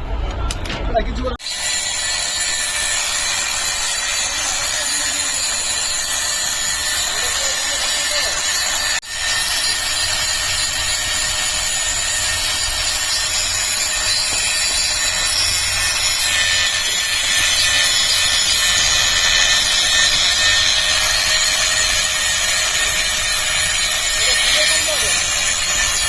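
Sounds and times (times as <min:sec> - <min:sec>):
angle grinder on steel: 0:01.4 - 0:26.0.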